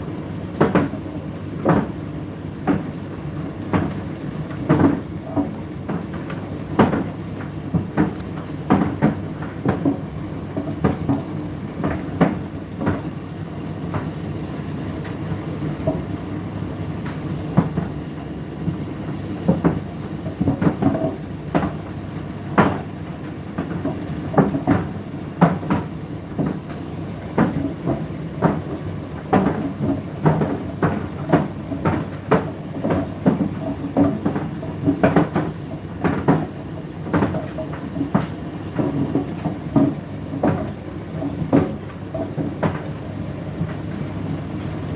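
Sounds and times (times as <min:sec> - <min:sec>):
tumble dryer motor hum: 0:00.0 - 0:44.9.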